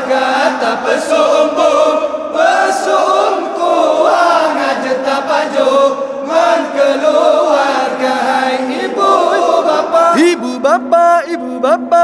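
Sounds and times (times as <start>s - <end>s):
young men chanting in unison: 0.0s - 12.0s.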